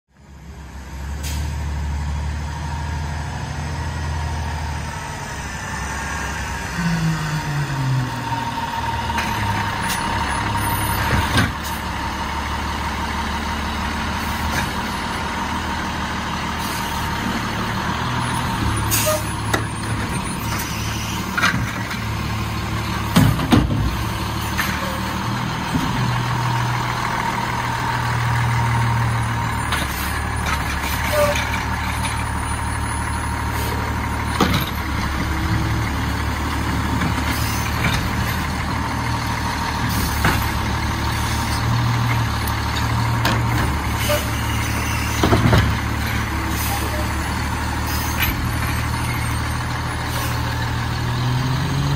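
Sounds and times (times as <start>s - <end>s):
diesel truck engine running: 0.2s - 51.9s.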